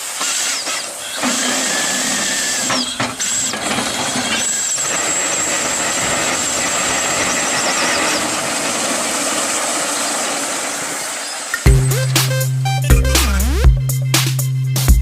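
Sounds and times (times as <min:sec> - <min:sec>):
steam machinery hissing: 0:00.0 - 0:12.6.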